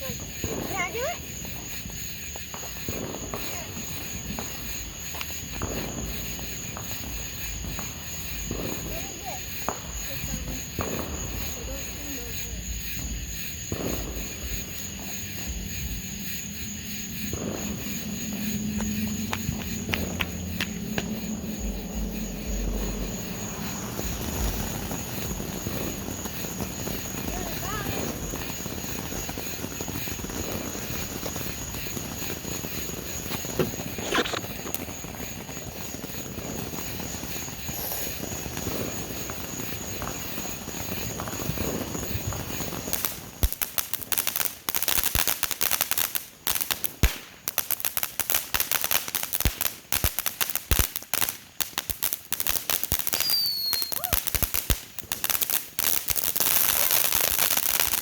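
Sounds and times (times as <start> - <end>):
fireworks crackling: 0.0 - 58.0
steady hiss: 0.0 - 58.0.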